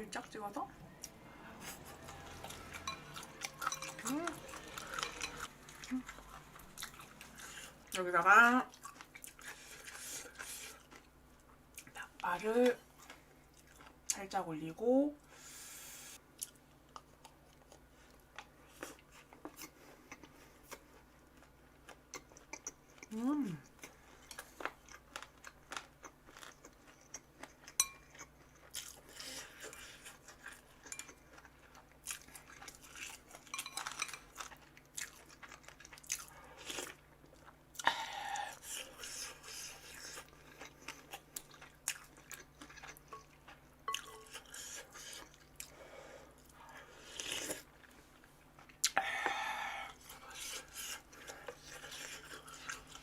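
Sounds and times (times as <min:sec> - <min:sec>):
wet chewing with crunches: 0:00.9 - 0:12.1, 0:16.4 - 0:45.8, 0:46.4 - 0:53.0.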